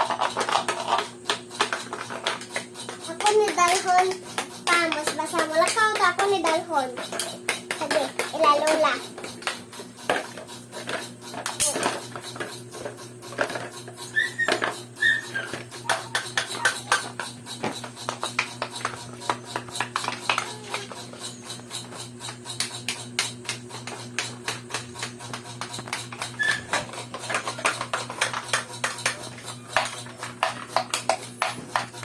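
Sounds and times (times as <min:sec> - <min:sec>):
steady low hum: 0:00.0 - 0:32.0
wooden toy tools clacking: 0:00.0 - 0:32.0.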